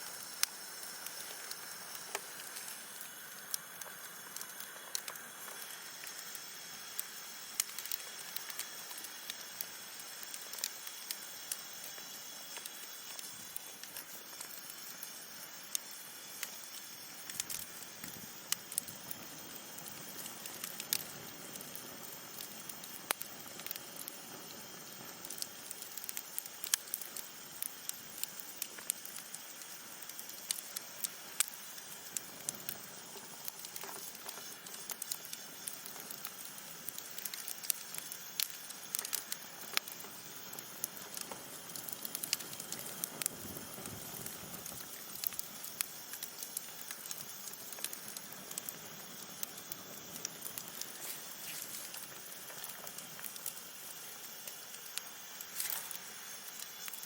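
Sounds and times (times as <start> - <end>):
campfire crackling and hissing: 0.0 - 57.0.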